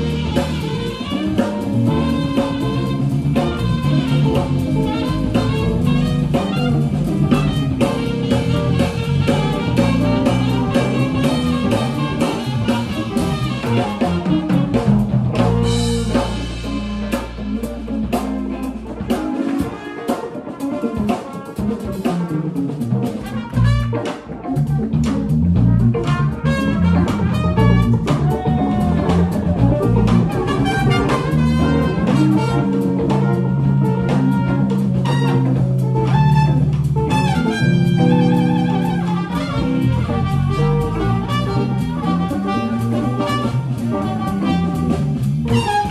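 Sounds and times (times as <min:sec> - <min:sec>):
small jazz band playing: 0:00.0 - 0:45.9.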